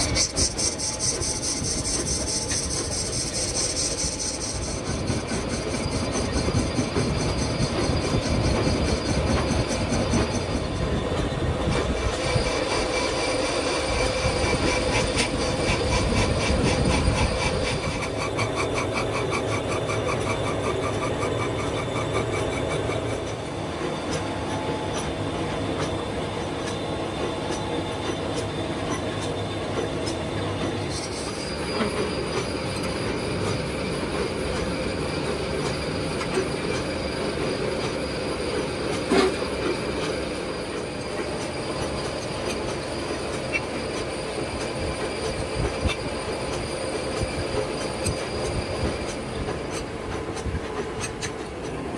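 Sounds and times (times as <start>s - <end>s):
lathe tool squealing on metal: 0.0s - 26.0s, 27.5s - 50.0s.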